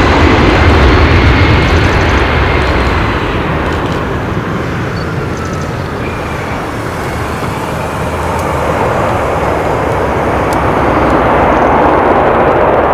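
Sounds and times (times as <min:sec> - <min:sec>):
jet engines rushing: 0:00.0 - 0:12.9.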